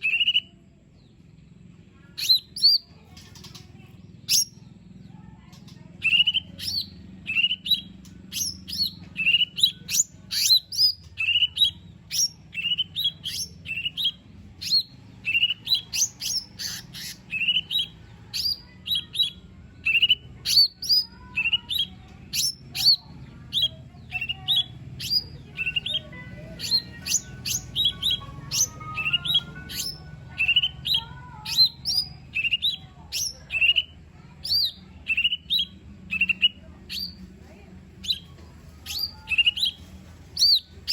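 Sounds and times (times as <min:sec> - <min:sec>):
bird chirping: 0:00.0 - 0:01.4, 0:02.0 - 0:37.3, 0:38.0 - 0:40.9.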